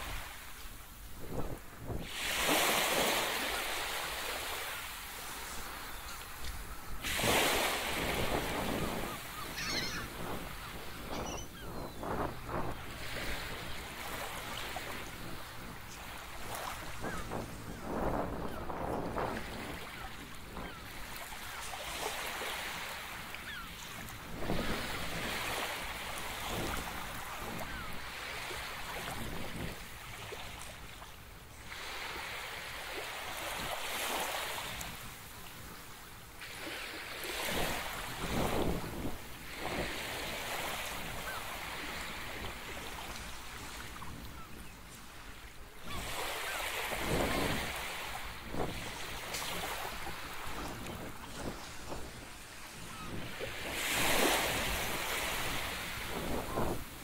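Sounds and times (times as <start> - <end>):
wind buffeting microphone: 0.0 - 3.4, 5.3 - 30.8, 37.3 - 45.0, 45.8 - 57.0
waves breaking: 0.0 - 57.0.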